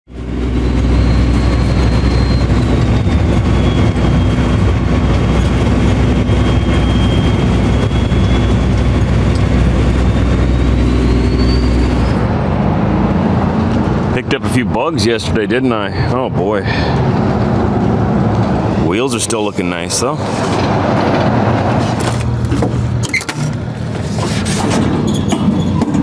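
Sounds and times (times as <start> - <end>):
road noise: 0.1 - 26.0
truck engine drone: 0.1 - 26.0.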